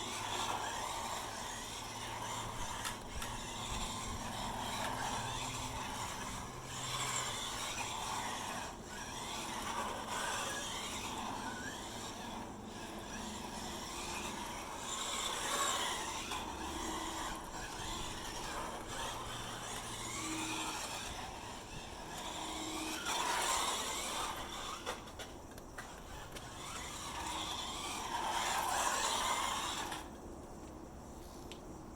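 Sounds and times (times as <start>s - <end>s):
electric motor whine: 0.0s - 30.2s.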